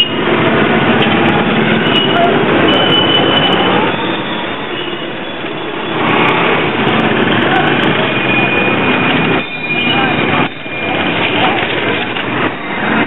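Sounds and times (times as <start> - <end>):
crowd voices: 0.0 - 13.0
traffic: 0.0 - 13.0.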